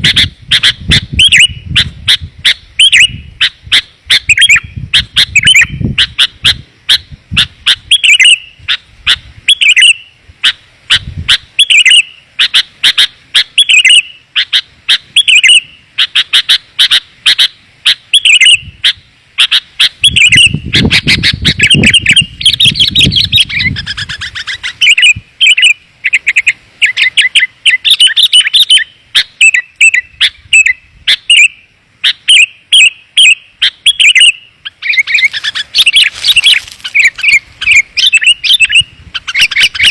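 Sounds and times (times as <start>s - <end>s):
bulbul chirping phrases: 0.0s - 39.9s.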